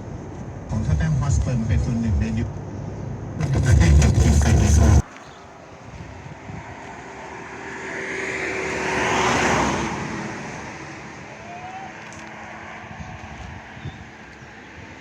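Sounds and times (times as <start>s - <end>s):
car passing by: 2.6s - 15.0s.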